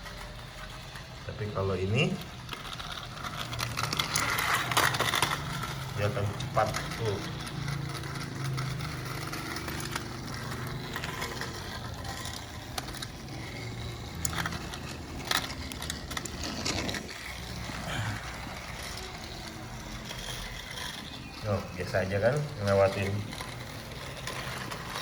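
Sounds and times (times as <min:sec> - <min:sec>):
toy train engines whirring: 0:00.0 - 0:25.0.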